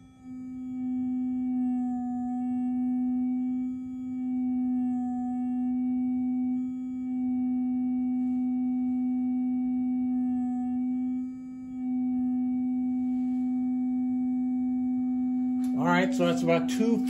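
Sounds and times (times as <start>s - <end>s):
steady sine tone: 0.0s - 17.0s.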